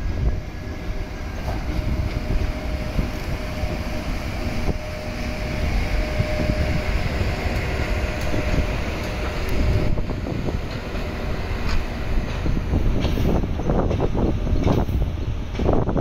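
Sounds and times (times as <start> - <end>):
faint locomotive whine: 0.0 - 16.0
locomotive wheels rumbling on rails: 0.0 - 16.0.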